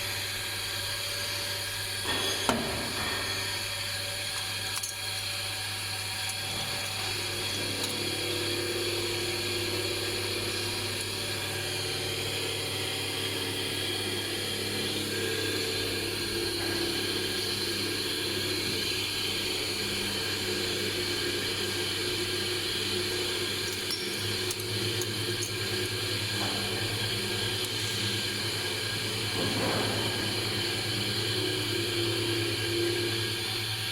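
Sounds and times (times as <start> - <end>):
machinery humming: 0.0 - 33.9.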